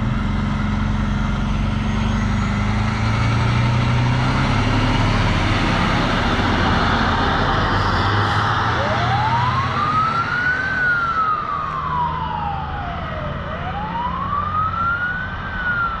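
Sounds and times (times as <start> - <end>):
truck engine running: 0.0 - 14.7
siren wailing: 0.9 - 16.0.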